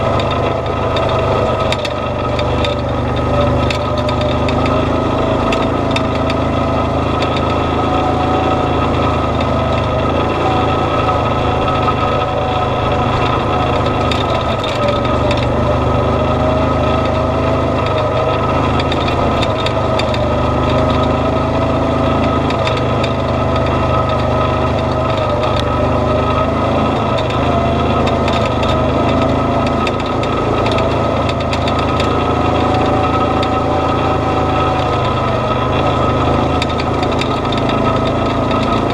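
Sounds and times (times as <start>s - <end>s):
off-road vehicle engine: 0.0s - 38.9s
steady high whine: 0.0s - 38.9s.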